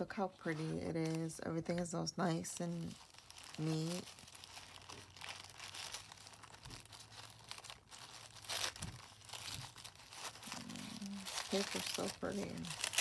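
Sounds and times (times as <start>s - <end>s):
tissue paper rustling: 0.0s - 13.0s.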